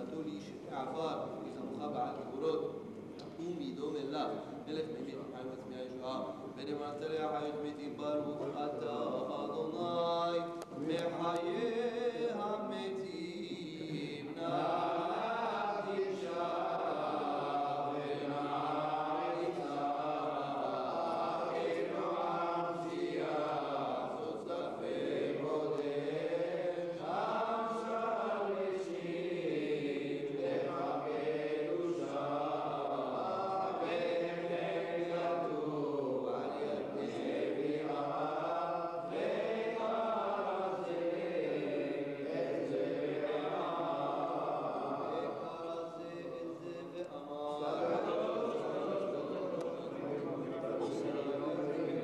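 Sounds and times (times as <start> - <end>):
men chanting a prayer: 0.0 - 52.0.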